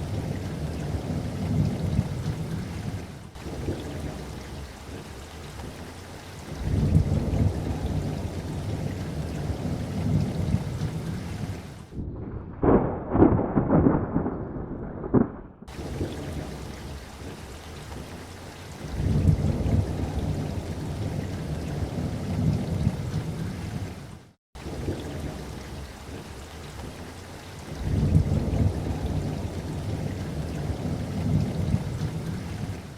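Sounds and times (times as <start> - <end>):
rolling thunder: 0.0 - 5.1, 6.5 - 17.4, 18.8 - 26.3, 27.7 - 32.9
muffled crackling thunderclap: 0.0 - 5.8, 6.4 - 18.2, 18.8 - 32.9
steady rain: 0.0 - 32.9.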